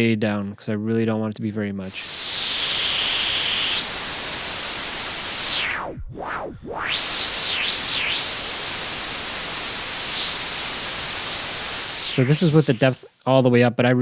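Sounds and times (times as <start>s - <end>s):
synthesized wind whistling: 1.8s - 13.2s.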